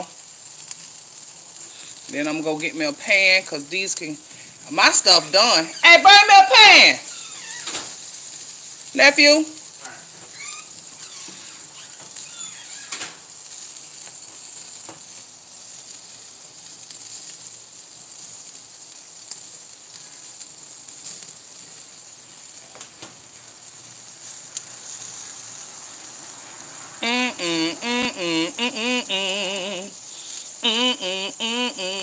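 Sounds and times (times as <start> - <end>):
food sizzling on a grill: 0.0 - 32.0.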